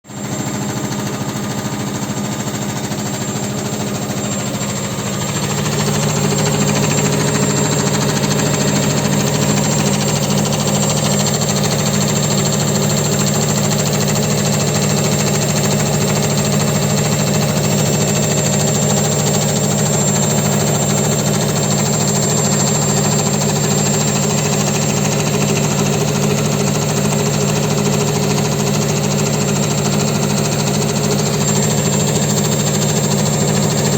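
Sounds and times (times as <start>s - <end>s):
washing machine spinning: 0.1s - 33.9s
washing machine knocking: 0.2s - 33.9s.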